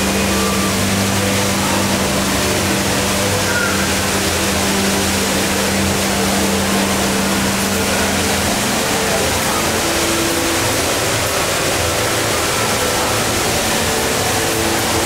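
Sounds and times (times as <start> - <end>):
indoor waterfall pouring: 0.0 - 15.0.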